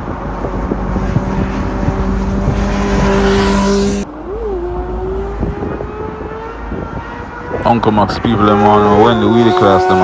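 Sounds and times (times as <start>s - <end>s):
motorcycle engine at high revs: 0.4s - 10.0s.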